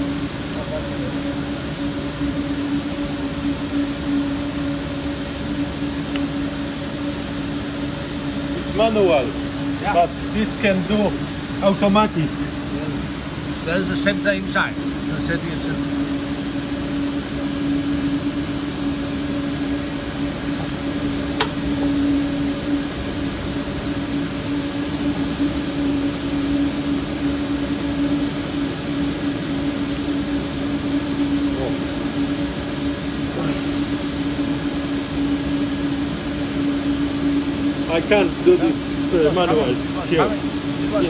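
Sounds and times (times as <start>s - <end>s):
lathe machine hum: 0.0s - 41.0s.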